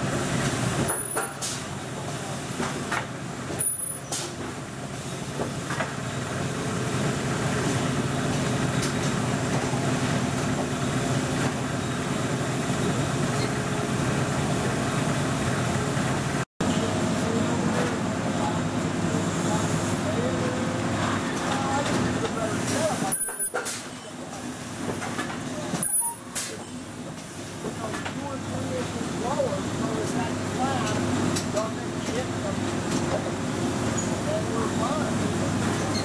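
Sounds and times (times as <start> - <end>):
factory machines humming and whirring: 0.0 - 36.0.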